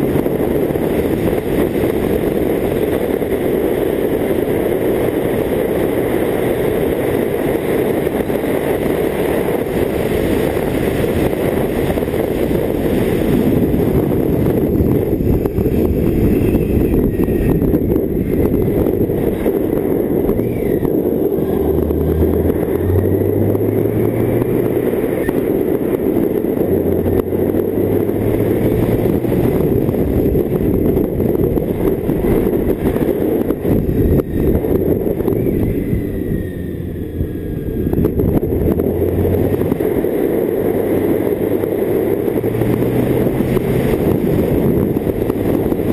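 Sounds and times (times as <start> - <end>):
motorcycle engine running: 0.0 - 45.9
wind and road noise: 0.0 - 45.9.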